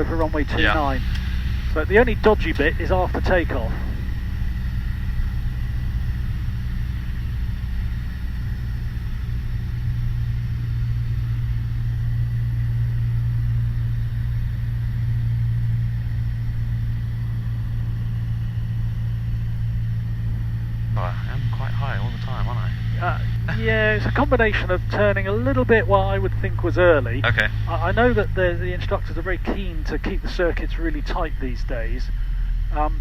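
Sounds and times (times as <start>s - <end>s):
aircraft engine and propeller droning: 0.0s - 33.0s.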